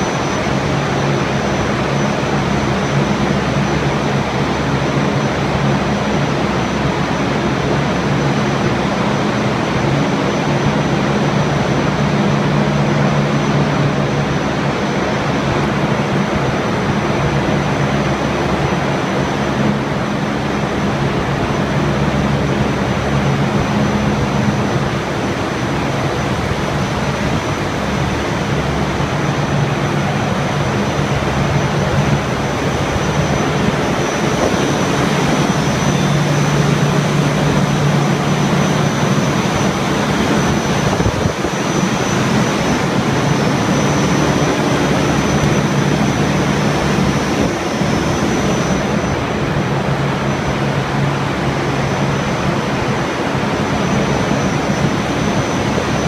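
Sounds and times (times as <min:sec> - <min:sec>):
low hum: 0:00.0 - 0:56.0
thin high whine: 0:00.0 - 0:56.0.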